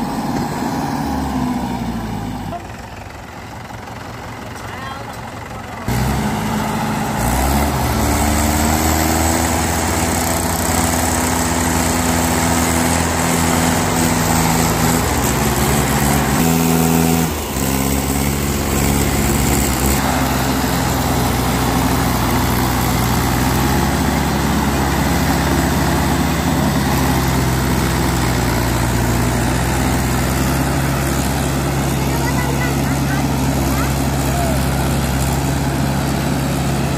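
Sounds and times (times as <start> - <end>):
tractor diesel engines under load: 0.0 - 36.9.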